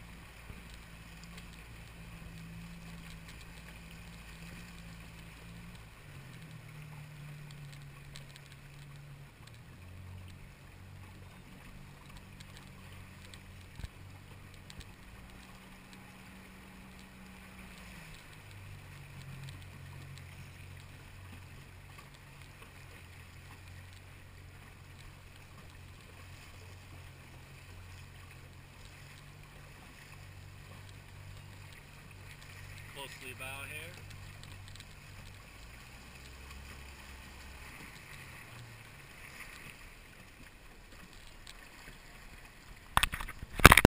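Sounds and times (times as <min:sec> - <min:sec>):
outboard motor running slowly: 0:00.0 - 0:43.9
water washing along hull: 0:00.0 - 0:43.9.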